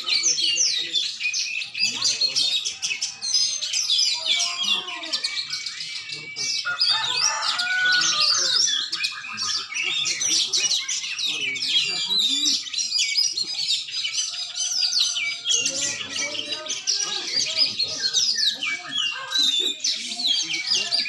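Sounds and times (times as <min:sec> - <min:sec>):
songbirds singing chorus: 0:00.0 - 0:21.0.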